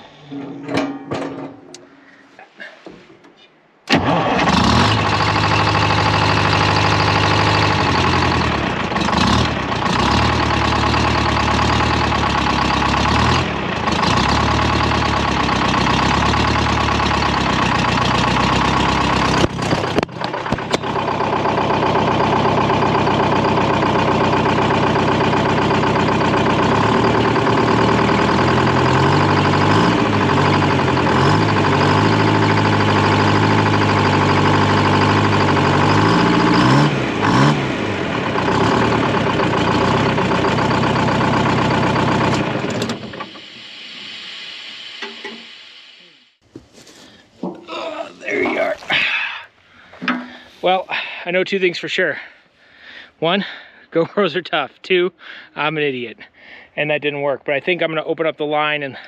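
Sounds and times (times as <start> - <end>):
diesel engine running: 3.9 - 51.4.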